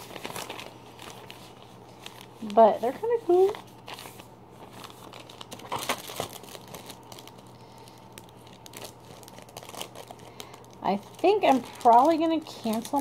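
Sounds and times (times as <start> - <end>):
paper and plastic crinkling: 0.0 - 13.0.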